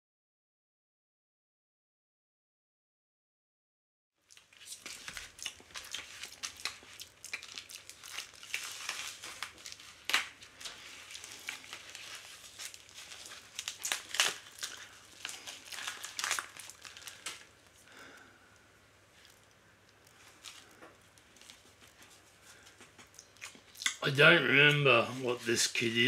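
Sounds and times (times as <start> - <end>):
plastic bag crinkling: 4.2 - 18.3, 19.1 - 26.0.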